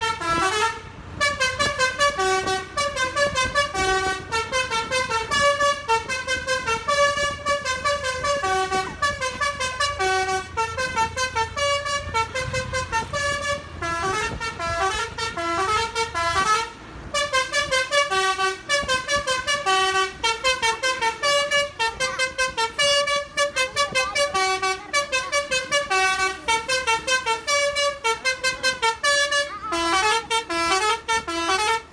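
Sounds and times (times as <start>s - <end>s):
multi-tone musical horn: 0.0s - 31.9s.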